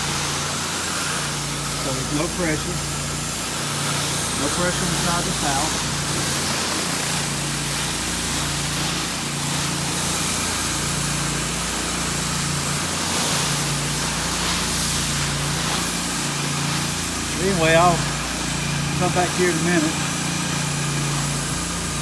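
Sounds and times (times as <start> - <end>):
pressure washer engine running: 0.0 - 22.0
pressure washer spray hiss: 0.0 - 22.0.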